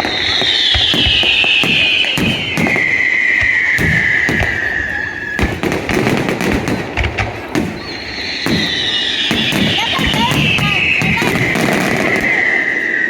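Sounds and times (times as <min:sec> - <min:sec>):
firework bangs and crackles: 0:00.0 - 0:13.0
whistling firework: 0:00.0 - 0:13.0.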